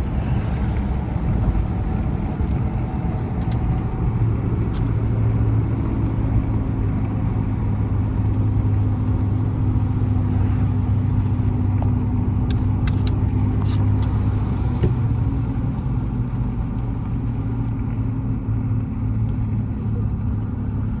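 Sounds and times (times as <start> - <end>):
car engine hum and road noise: 0.0 - 21.0.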